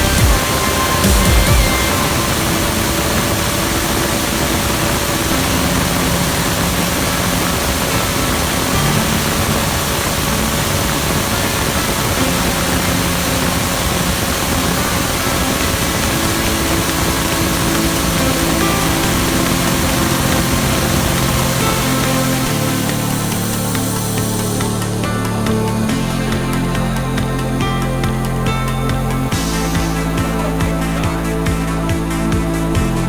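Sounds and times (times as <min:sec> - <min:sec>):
background music with low notes: 0:00.0 - 0:33.0.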